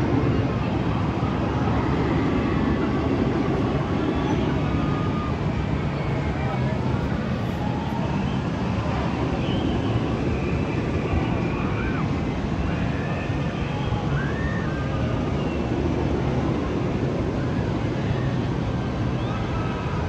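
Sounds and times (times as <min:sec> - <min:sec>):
faint distant voices: 0:00.0 - 0:20.0.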